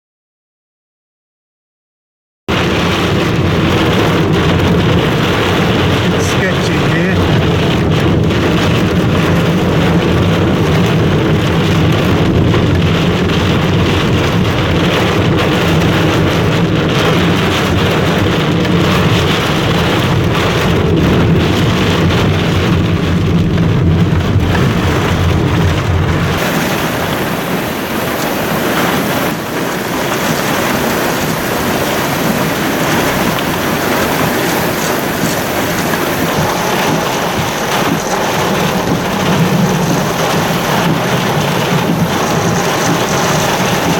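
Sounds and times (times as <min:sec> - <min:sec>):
car engine and road noise: 0:02.5 - 0:43.9
heavy rain on car roof: 0:02.5 - 0:43.9.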